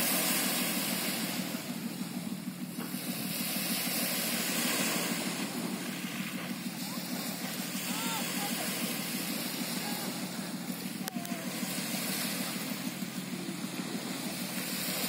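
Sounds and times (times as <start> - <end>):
small waves washing onto sand: 0.0 - 15.0.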